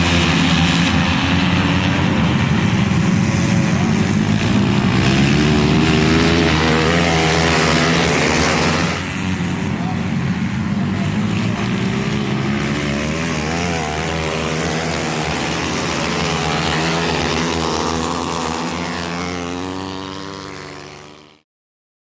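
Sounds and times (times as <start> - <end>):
racing motorcycle engines: 0.0 - 21.4.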